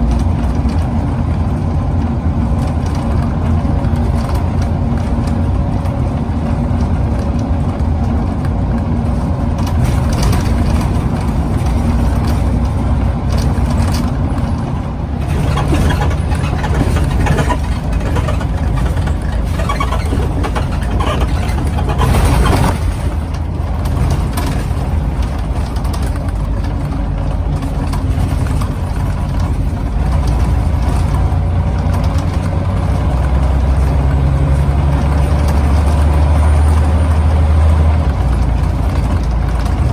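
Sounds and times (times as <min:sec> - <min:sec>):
bus engine running from on board: 0:00.0 - 0:39.9.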